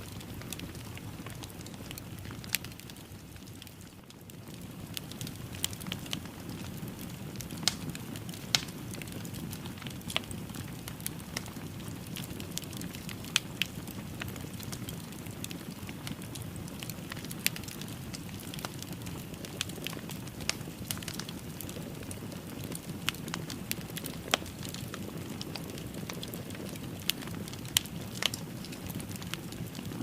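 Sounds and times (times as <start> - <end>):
fire crackling in a fireplace: 0.0 - 30.0.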